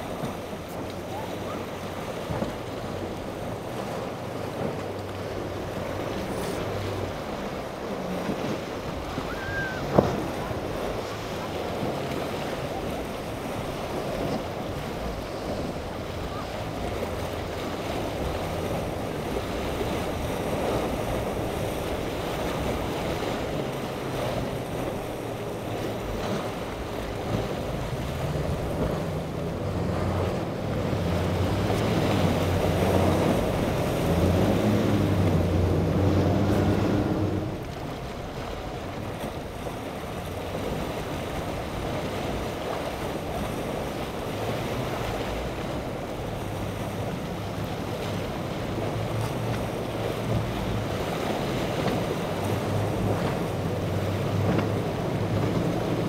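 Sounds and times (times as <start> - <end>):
outboard motors droning: 0.0 - 56.0
waves on choppy water: 0.0 - 56.0.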